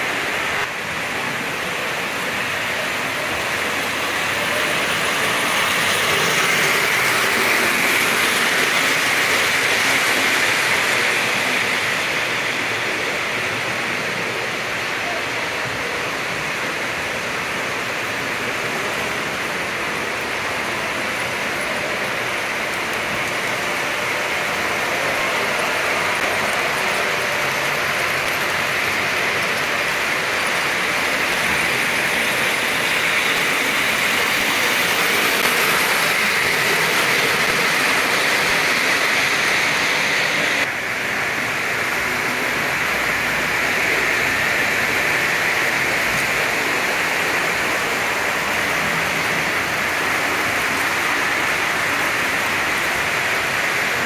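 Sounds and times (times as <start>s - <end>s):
model train wheels whirring: 0.0s - 54.0s.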